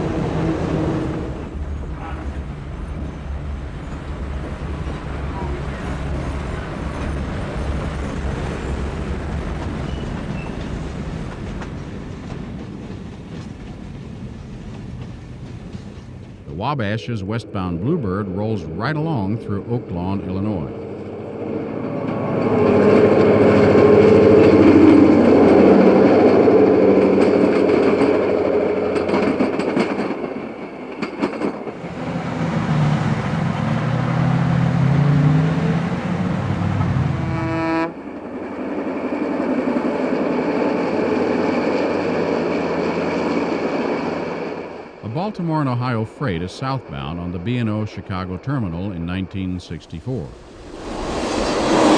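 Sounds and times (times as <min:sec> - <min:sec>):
locomotive engine drone: 0:00.0 - 0:12.4, 0:13.0 - 0:29.6, 0:31.7 - 0:45.3, 0:47.2 - 0:51.9
train rumbling on rails: 0:00.0 - 0:51.9.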